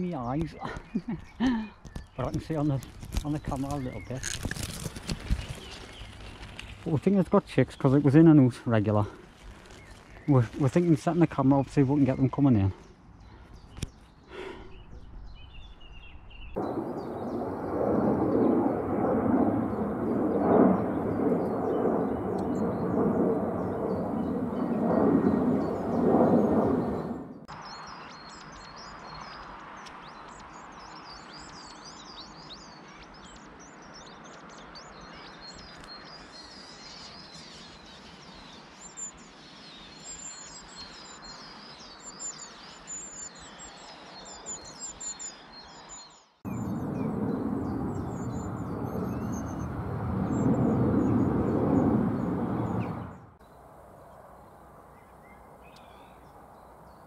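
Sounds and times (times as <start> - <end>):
birds chirping: 0.0 - 57.0
low outdoor background: 0.0 - 57.0.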